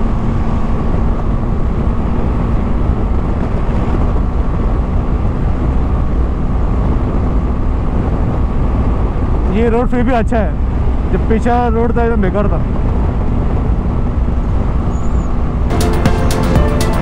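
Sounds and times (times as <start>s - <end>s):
wind rush: 0.0s - 11.4s, 12.0s - 15.7s.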